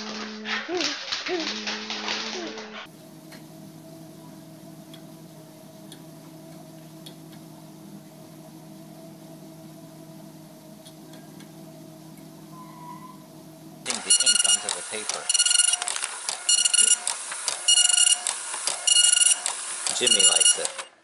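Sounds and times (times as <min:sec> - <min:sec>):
treadmill motor hum: 0:02.2 - 0:21.0.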